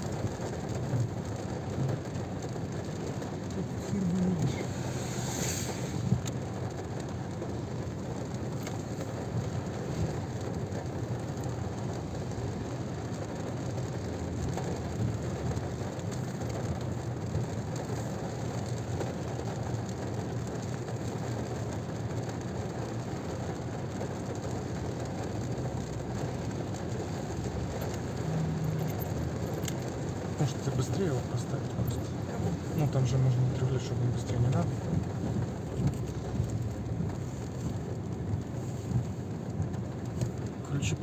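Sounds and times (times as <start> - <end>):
car low rumble: 0.0 - 41.0
rain on a car: 0.0 - 41.0.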